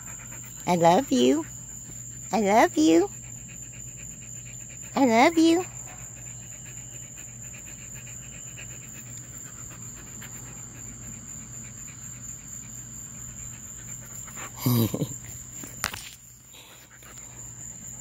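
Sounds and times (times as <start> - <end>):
dog vocal sound: 0.0 - 15.8
dog panting: 0.0 - 18.0
high insect trill: 0.0 - 18.0.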